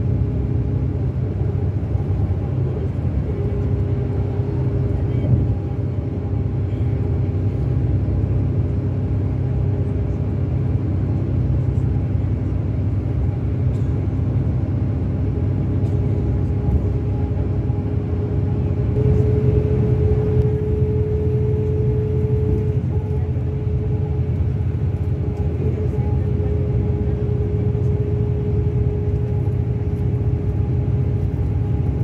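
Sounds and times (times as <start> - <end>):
diesel coach engine rumble: 0.0 - 32.0.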